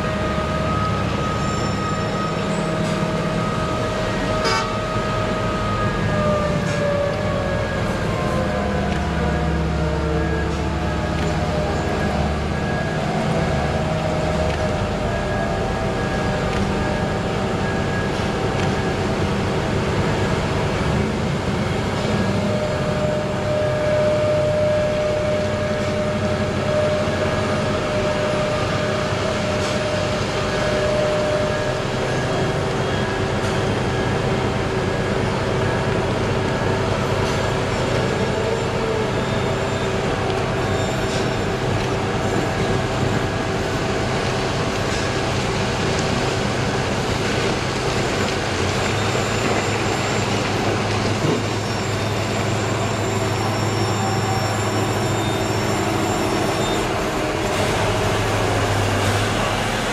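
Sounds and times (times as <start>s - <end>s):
dump truck engine drone: 0.0s - 59.9s.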